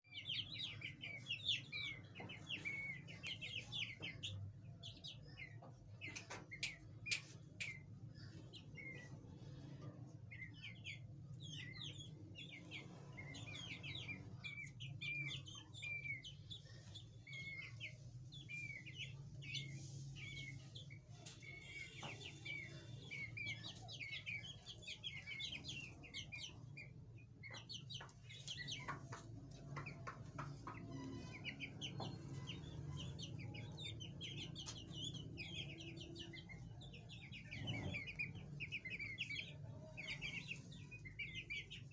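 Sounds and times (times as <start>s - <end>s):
partridge chicks peeping: 0.0s - 41.9s.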